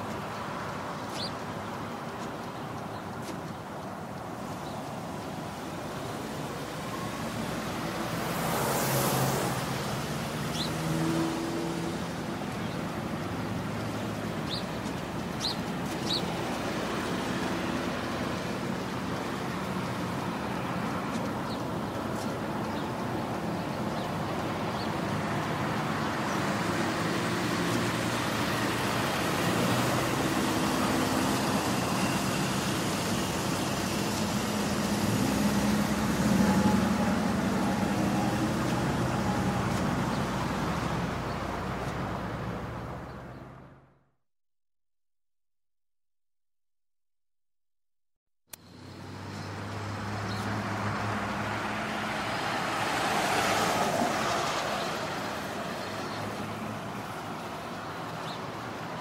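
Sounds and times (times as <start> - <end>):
road traffic passing: 0.0 - 44.1, 48.5 - 59.0.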